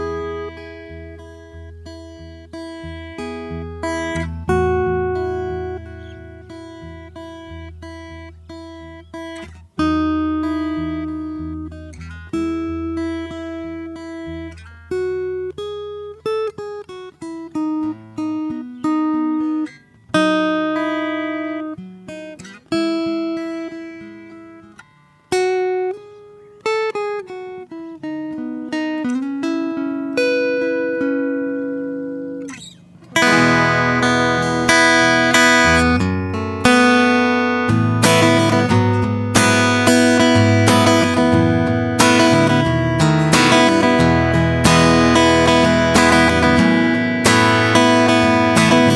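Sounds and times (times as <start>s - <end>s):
solo acoustic guitar: 0.0s - 48.9s.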